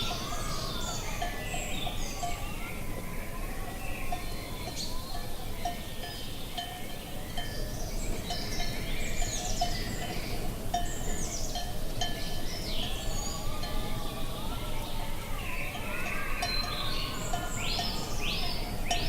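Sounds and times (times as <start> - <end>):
cowbells clanking: 0.0 - 2.6, 4.1 - 14.0, 15.0 - 19.0
birds chirping: 0.0 - 19.0.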